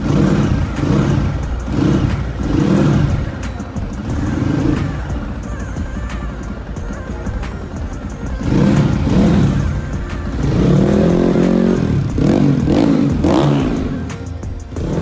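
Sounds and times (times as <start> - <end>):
background music: 0.0 - 15.0
motorcycle engine revving: 0.0 - 15.0.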